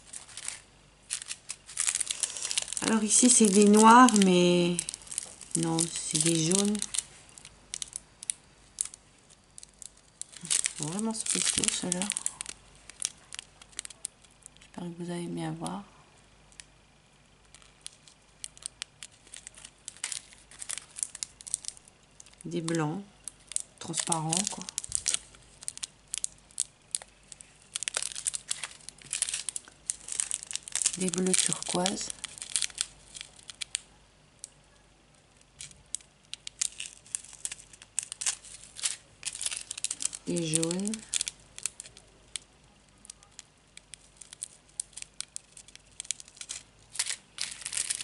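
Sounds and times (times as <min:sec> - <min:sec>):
plastic bags crinkling: 0:00.0 - 0:15.7, 0:16.4 - 0:48.0.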